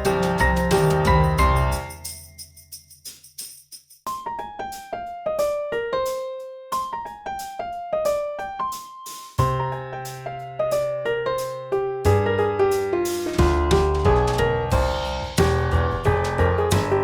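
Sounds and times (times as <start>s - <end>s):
piano keyboard melody: 0.0s - 2.2s, 4.1s - 17.0s.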